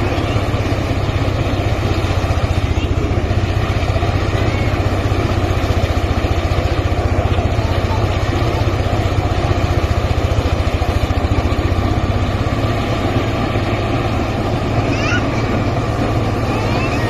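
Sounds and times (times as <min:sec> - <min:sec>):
harvester engine throbbing: 0:00.0 - 0:17.0.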